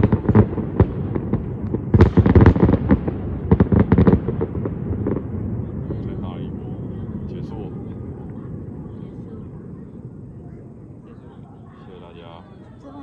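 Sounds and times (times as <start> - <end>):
fireworks bangs: 0.0 - 12.1.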